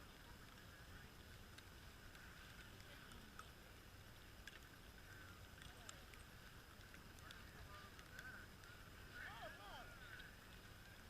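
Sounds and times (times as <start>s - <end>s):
faint background hiss: 0.0s - 11.0s
faint clicks: 0.0s - 11.0s.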